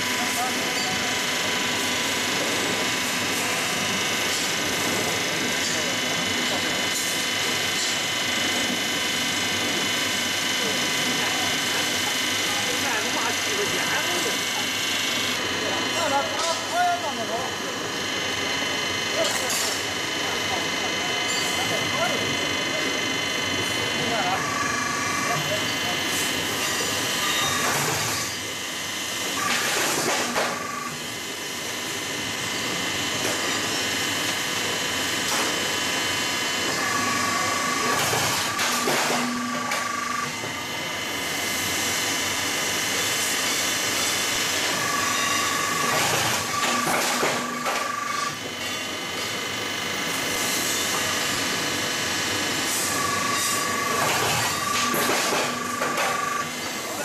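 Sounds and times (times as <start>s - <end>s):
roll forming machine running: 0.0s - 57.0s.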